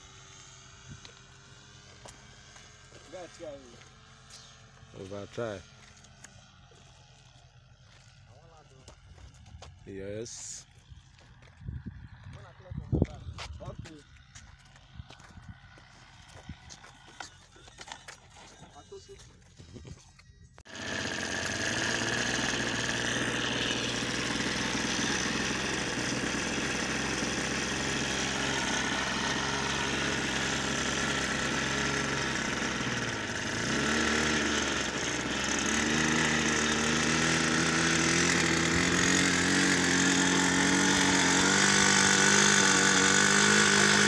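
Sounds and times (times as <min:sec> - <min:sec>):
model airplane engine running: 0:00.0 - 0:20.0, 0:20.6 - 0:44.0.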